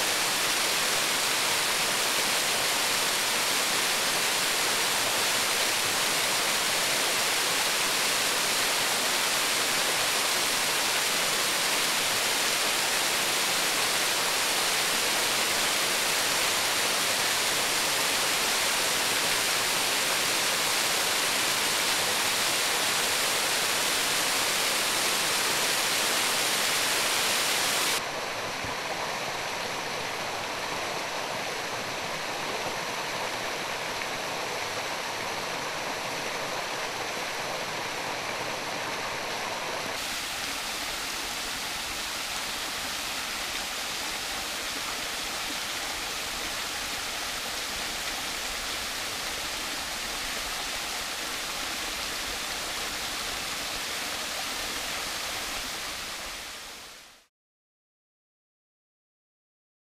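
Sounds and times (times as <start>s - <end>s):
waterfall rushing over rock: 0.0s - 57.3s.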